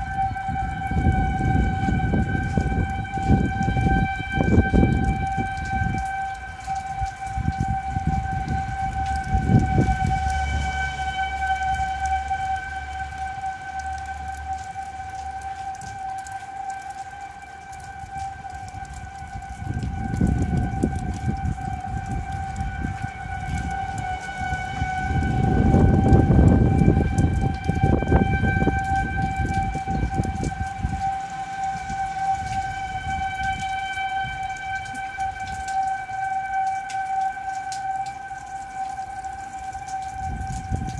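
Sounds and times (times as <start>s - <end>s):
warning siren steady tone: 0.0s - 40.9s
wind rumbling on microphone: 0.0s - 40.9s.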